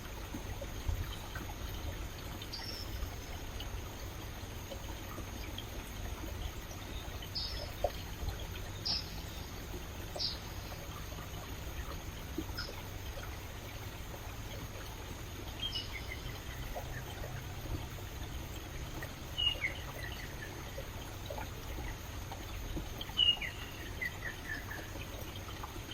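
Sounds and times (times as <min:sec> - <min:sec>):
stream trickling over rocks: 0:00.0 - 0:25.9.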